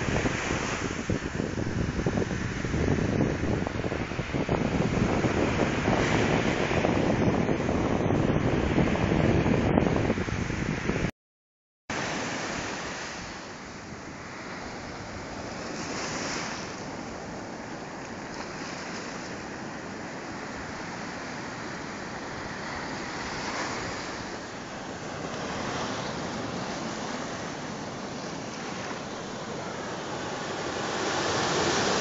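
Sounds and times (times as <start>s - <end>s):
surf washing up sand: 0.0s - 11.0s, 11.9s - 32.0s.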